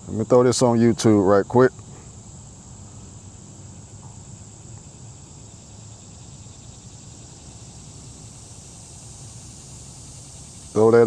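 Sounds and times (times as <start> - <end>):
insects chirping: 0.0 - 11.0
low constant rumble: 0.0 - 11.0.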